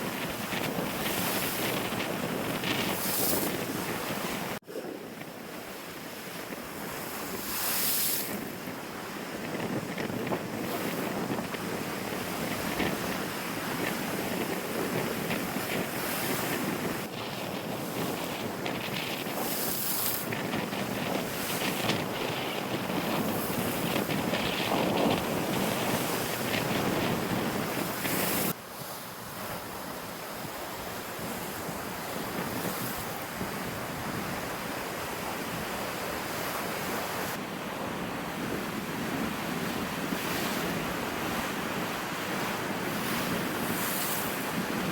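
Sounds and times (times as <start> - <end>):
wind buffeting microphone: 0.0 - 28.6, 29.3 - 44.9
waves washing onto shore: 0.0 - 44.9.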